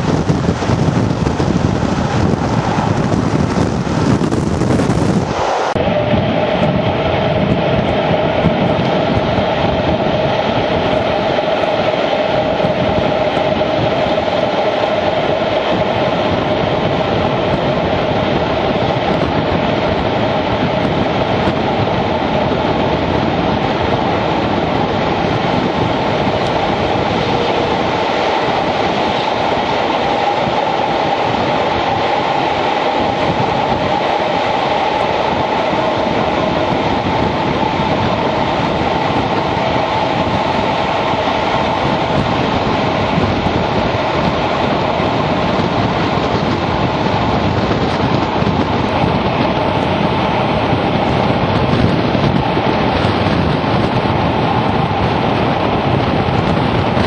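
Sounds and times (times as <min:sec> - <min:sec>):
diesel locomotive engines working: 0:00.0 - 0:57.0.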